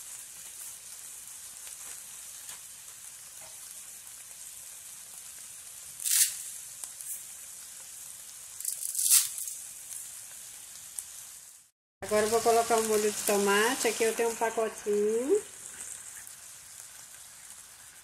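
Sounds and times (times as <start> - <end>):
food sizzling in a pan: 0.0 - 18.0
faint crackles: 0.1 - 11.1, 12.1 - 18.0.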